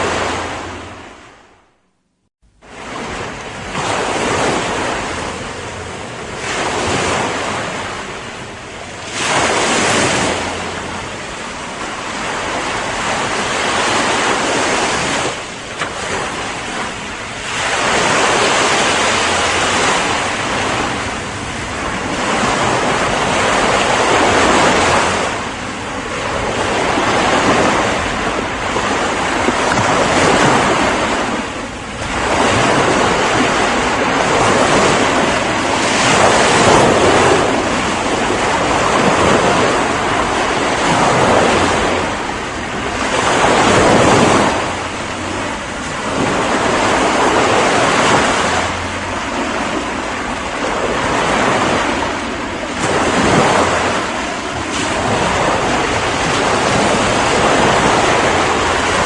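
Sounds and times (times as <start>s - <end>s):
ocean waves surging: 0.0s - 1.8s, 2.5s - 59.0s.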